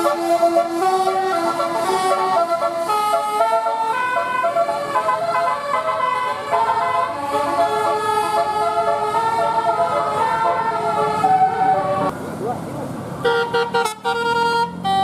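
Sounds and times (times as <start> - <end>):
musical air horn tune: 0.0 - 12.1, 13.2 - 15.0.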